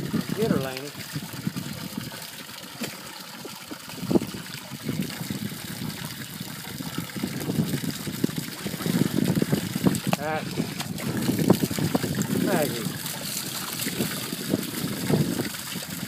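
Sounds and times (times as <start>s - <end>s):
hose stream pouring into water: 0.0s - 16.0s.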